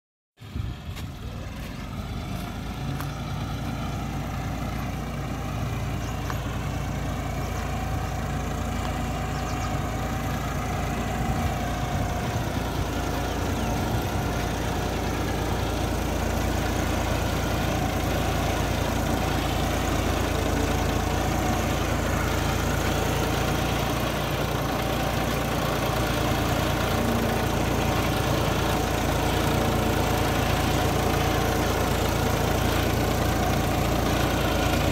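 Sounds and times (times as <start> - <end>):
tractor diesel engine under load: 0.4 - 34.9.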